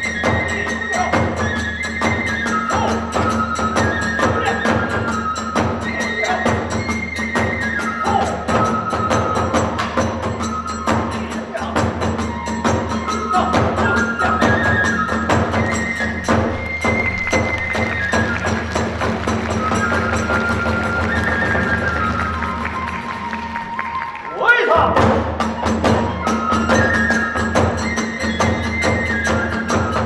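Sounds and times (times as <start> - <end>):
rapid drum beats: 0.0 - 24.0, 24.6 - 30.0
bamboo flute melody: 0.0 - 30.0.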